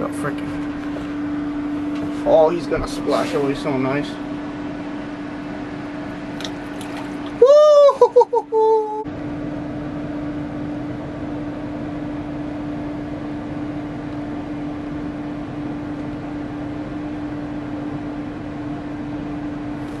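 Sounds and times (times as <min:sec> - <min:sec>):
mechanical hum with hiss: 0:00.0 - 0:20.0.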